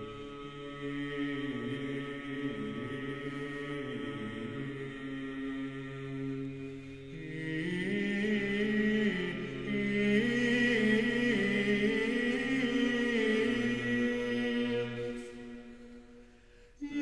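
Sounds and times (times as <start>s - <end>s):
slow chant-like background music: 0.0s - 17.0s.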